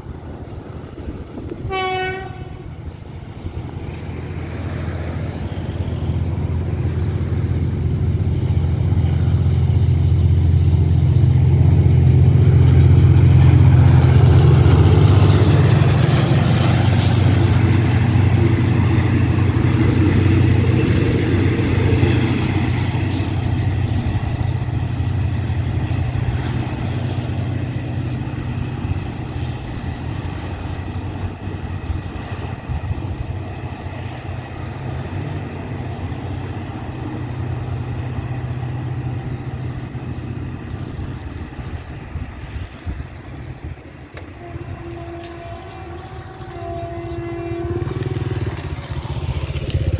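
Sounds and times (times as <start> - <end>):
locomotive engine hum: 0.0 - 49.9
train coaches running on rails: 0.0 - 49.9.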